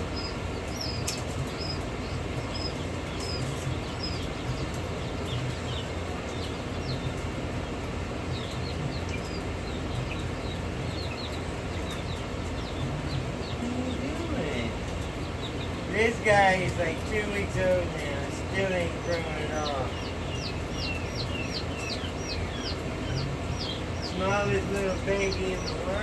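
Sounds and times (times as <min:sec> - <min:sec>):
chick peeping: 0:00.0 - 0:26.0
steady low hum: 0:00.0 - 0:26.0.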